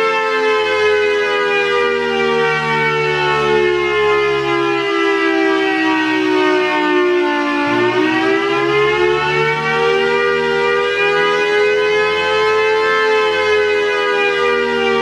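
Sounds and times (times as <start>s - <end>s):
civil defense siren wailing: 0.0s - 15.0s.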